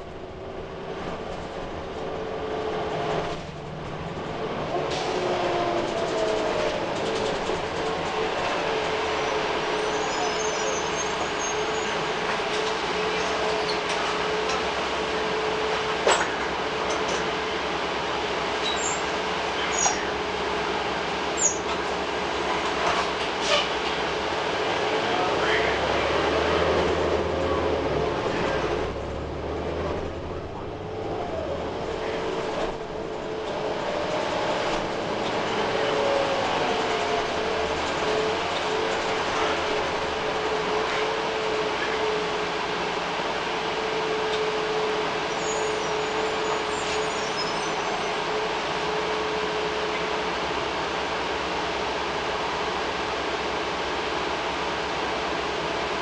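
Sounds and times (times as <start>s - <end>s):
bus engine running: 0.0s - 56.0s
drivetrain whine: 0.0s - 56.0s
road noise: 0.0s - 56.0s.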